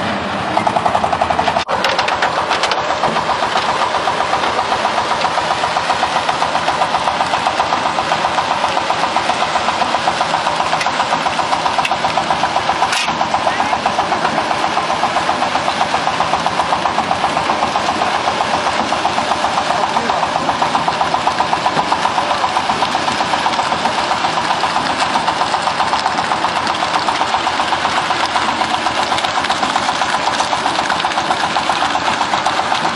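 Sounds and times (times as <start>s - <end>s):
concrete mixer drum turning: 0.0s - 32.9s.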